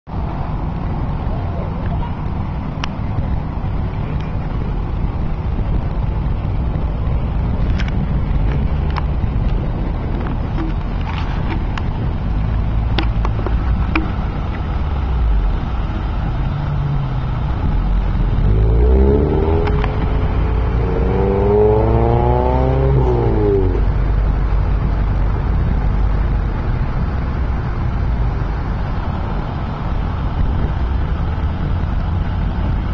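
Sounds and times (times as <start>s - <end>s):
road and wind rumble: 0.0s - 32.9s
car engine accelerating: 0.1s - 32.9s.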